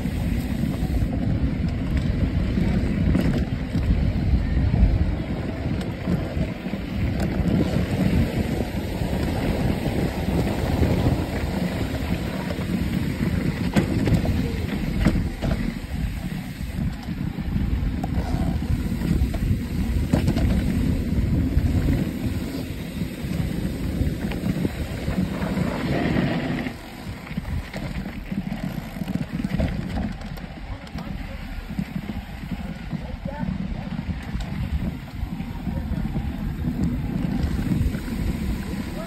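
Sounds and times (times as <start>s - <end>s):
mountain bike rolling on dirt: 0.0s - 39.0s
wind buffeting microphone: 0.0s - 39.0s.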